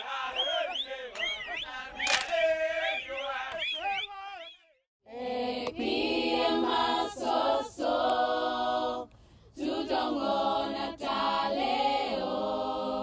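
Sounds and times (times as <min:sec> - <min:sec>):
choir singing held chords: 0:00.0 - 0:03.8, 0:05.1 - 0:13.0.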